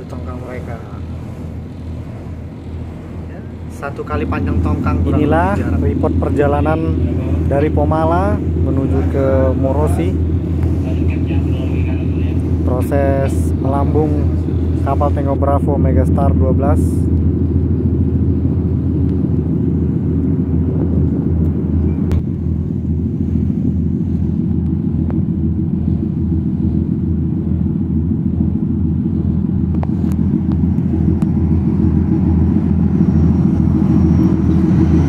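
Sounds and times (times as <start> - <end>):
diesel engines throbbing: 0.0 - 35.0.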